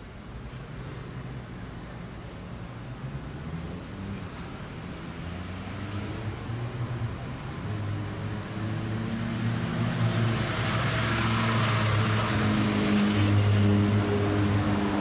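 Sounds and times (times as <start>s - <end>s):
background traffic: 0.0s - 15.0s
vehicle engine hum and tyre noise: 0.0s - 15.0s.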